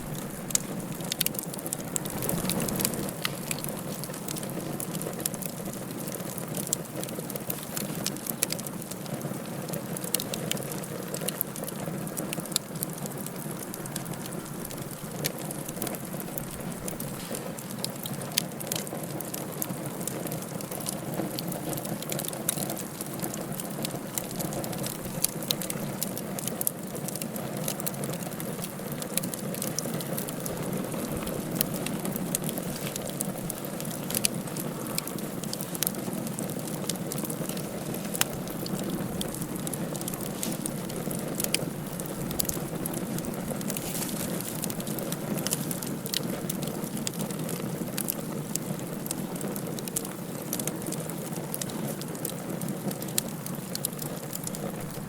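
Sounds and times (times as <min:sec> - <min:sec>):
fire crackling and popping: 0:00.0 - 0:55.0
low rush of fire: 0:00.0 - 0:55.0.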